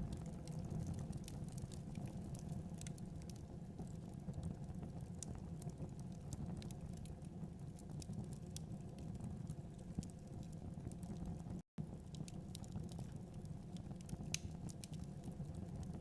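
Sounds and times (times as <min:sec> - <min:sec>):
fire burning in a fireplace: 0:00.0 - 0:16.0
fire crackling and popping: 0:00.0 - 0:16.0.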